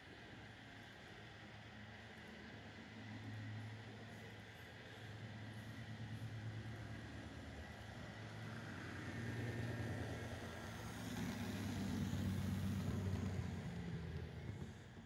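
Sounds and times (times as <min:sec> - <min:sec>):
model train humming: 0:00.0 - 0:15.0.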